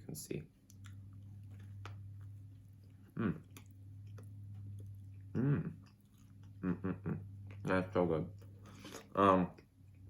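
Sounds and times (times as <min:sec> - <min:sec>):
steady low hum: 0:00.0 - 0:10.0
person chewing: 0:00.6 - 0:10.0.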